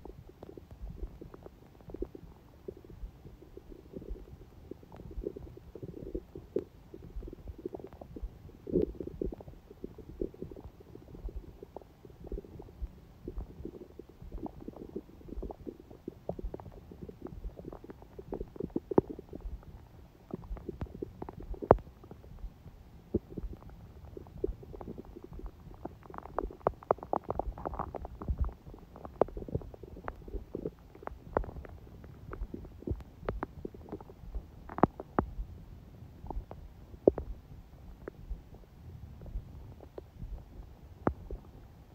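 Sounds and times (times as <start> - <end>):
stomach gurgling: 0.0 - 41.9.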